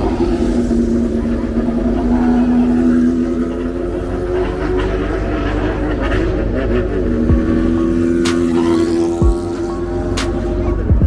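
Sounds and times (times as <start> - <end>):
steady held tones: 0.0 - 11.0
vehicle engines revving: 0.0 - 11.0.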